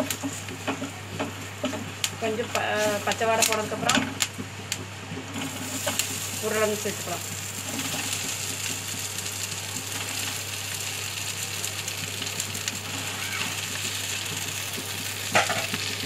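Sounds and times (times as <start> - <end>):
spices sizzling in a frying pan: 0.0 - 16.0.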